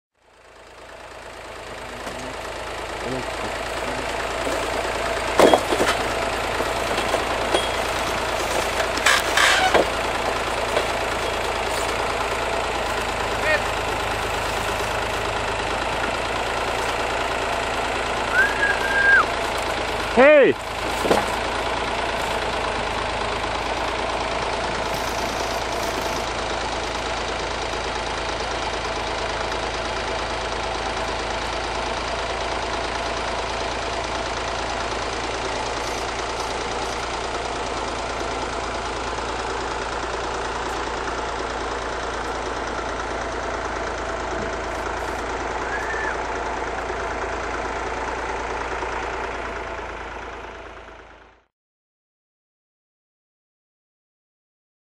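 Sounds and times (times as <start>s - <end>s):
engine idling: 0.1s - 51.5s.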